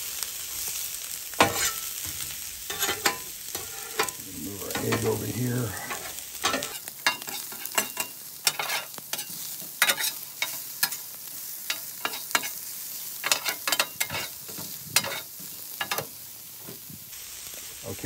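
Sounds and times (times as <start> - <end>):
vegetables sizzling on griddle: 0.0 - 18.0
spatula scraping griddle: 1.3 - 16.8.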